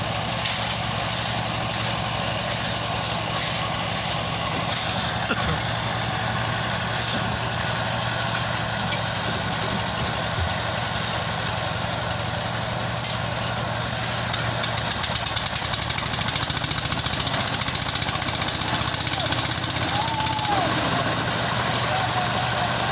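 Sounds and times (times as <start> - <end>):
heavy engine running: 0.0 - 22.9.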